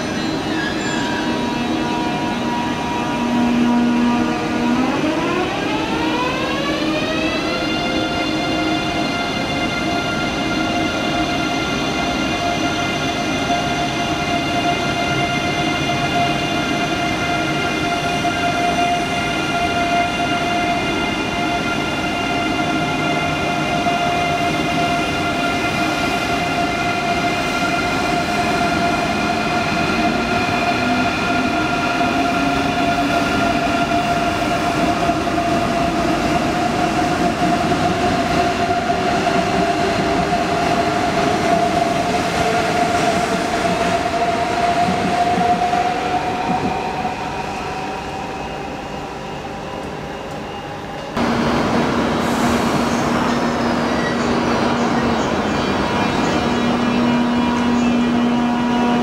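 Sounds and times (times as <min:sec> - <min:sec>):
electric train whine: 0:00.0 - 0:59.0
train wheel and running noise: 0:11.0 - 0:59.0.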